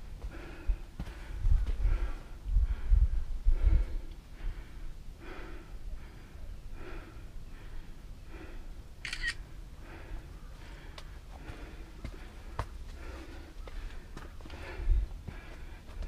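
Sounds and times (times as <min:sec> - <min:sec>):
rhythmic heavy breathing: 0:00.1 - 0:16.0.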